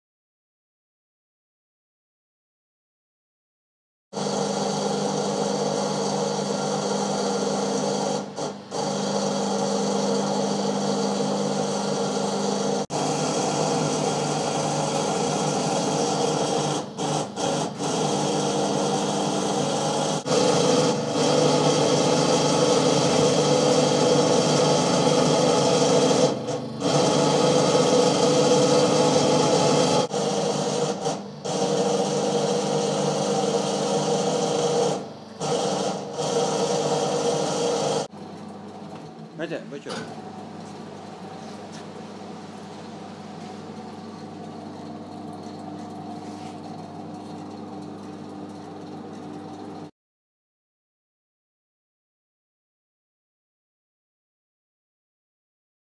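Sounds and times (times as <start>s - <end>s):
rim-straightening machine humming: 4.2s - 49.9s.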